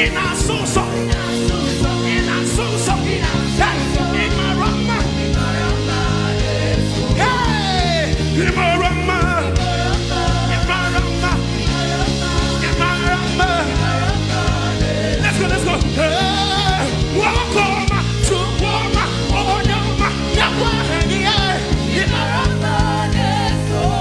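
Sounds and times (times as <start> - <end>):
steady drum beat: 0.0 - 24.0
worship band music: 0.0 - 24.0.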